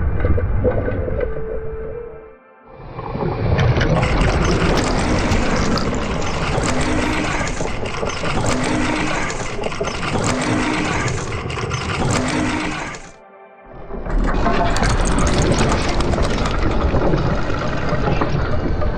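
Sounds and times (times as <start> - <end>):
mechanical engine running: 3.6 - 18.9.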